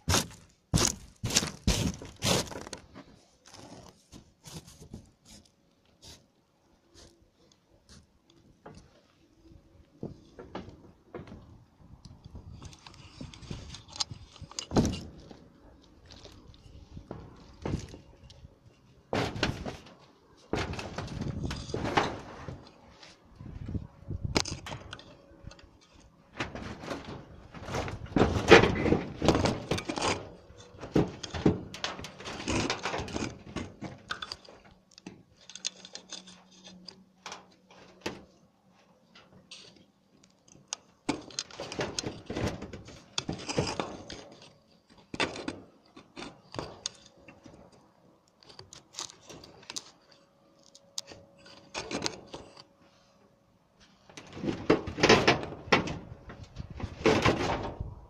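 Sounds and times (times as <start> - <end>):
knocks clatters and scrapes of repairs: 0.0 - 6.3, 6.9 - 58.0.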